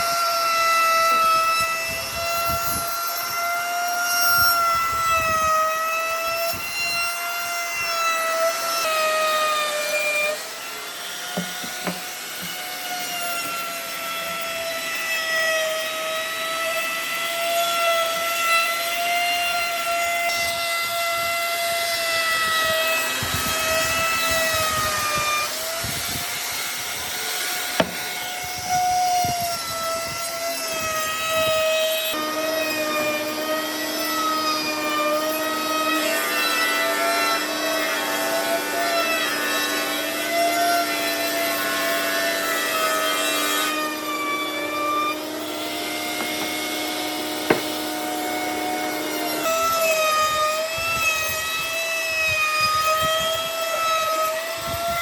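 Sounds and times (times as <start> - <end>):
power tool motor whining: 0.0 - 55.0.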